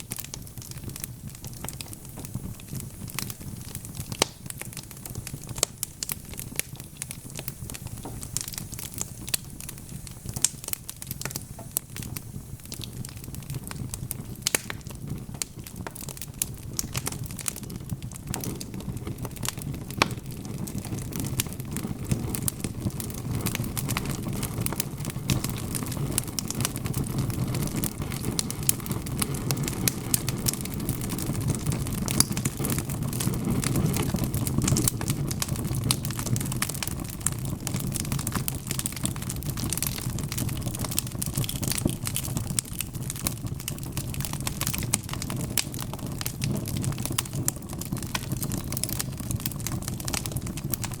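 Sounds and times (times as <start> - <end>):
low rumble of burning: 0.0 - 51.0
wood fire crackling and popping: 0.0 - 51.0.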